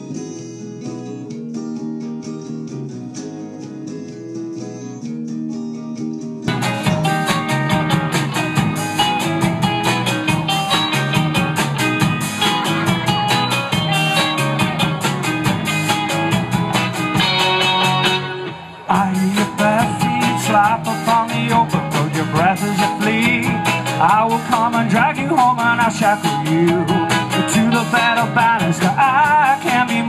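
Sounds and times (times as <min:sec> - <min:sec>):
electric guitar playing: 0:00.0 - 0:30.0
rock band playing: 0:00.0 - 0:30.0.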